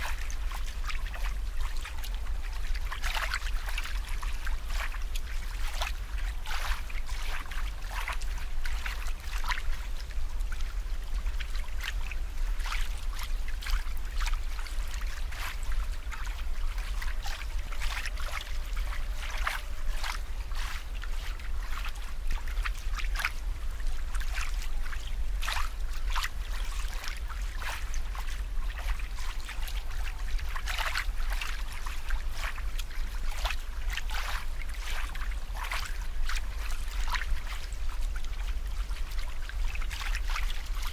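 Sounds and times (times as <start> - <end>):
low steady hum: 0.0 - 40.9
water trickling and bubbling: 0.0 - 40.9.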